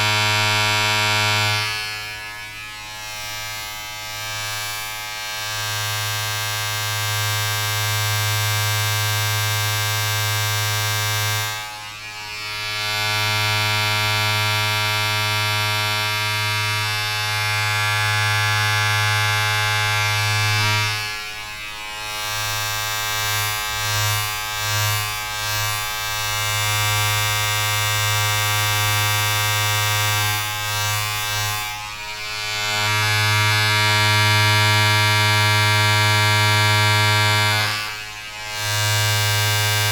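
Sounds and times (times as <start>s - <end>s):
electric buzzing drone: 0.0s - 39.9s.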